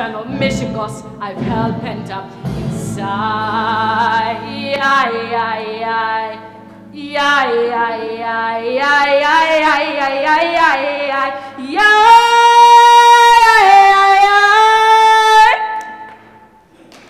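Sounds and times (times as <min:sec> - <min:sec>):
woman singing show tune: 0:00.0 - 0:15.6.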